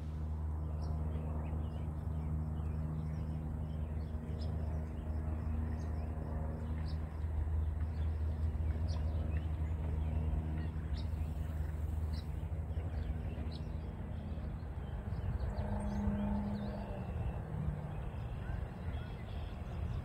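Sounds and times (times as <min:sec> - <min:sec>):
steady low drone: 0:00.0 - 0:20.0
birds chirping: 0:00.6 - 0:20.0.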